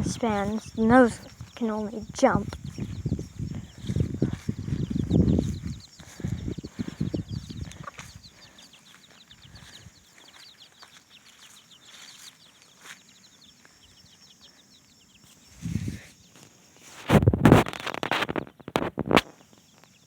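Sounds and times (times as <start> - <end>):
young chickens peeping: 0.0 - 20.0.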